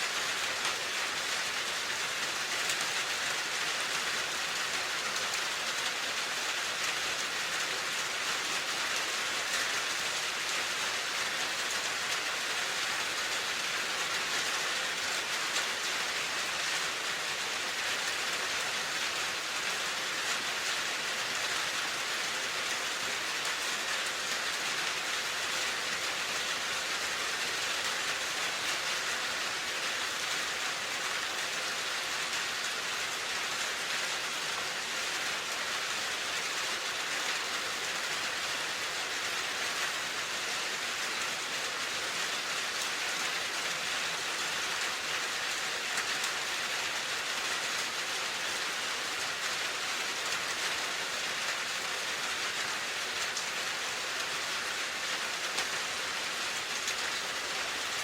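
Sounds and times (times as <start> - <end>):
rain hissing on a surface: 0.0 - 58.0.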